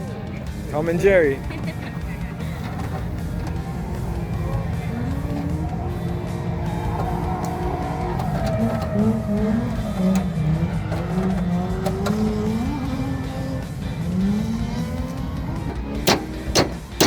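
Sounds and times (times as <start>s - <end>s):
background music: 0.0s - 17.0s
car engine revving: 0.0s - 17.0s
tyre noise: 0.0s - 17.0s.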